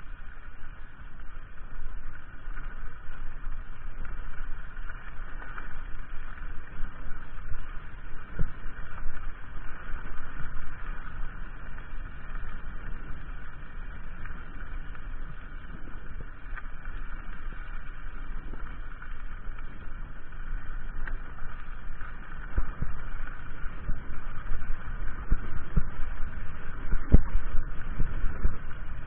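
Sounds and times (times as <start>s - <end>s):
bike tyre noise: 0.0s - 29.0s
wind rumble on microphone: 0.0s - 29.0s.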